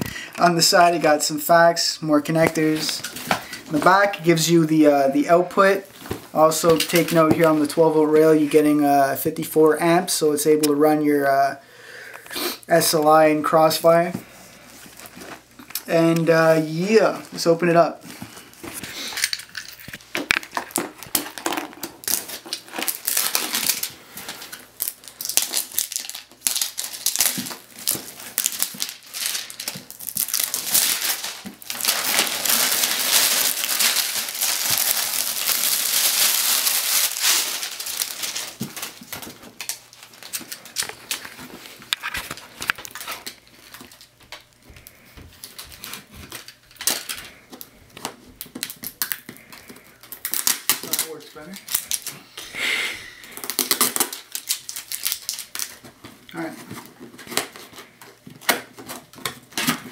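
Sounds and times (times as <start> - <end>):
plastic and cardboard crinkling: 0.0 - 11.0, 12.2 - 52.3, 53.2 - 59.9.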